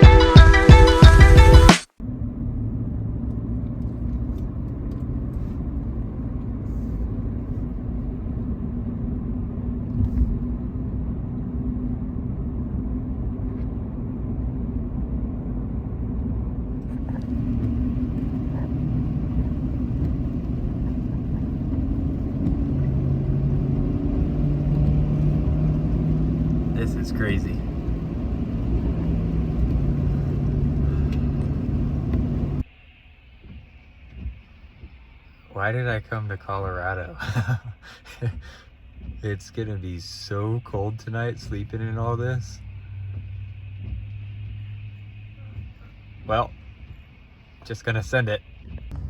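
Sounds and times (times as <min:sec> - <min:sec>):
truck engine and road rumble: 0:00.0 - 0:49.0.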